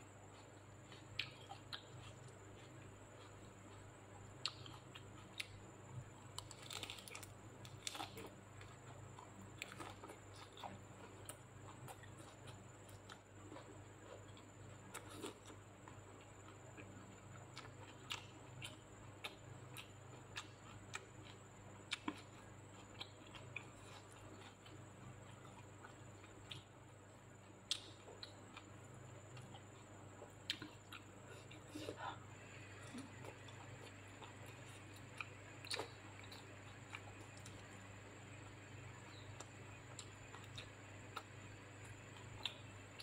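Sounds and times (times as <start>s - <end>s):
low steady hum: 0.0s - 43.0s
person chewing food: 0.2s - 43.0s.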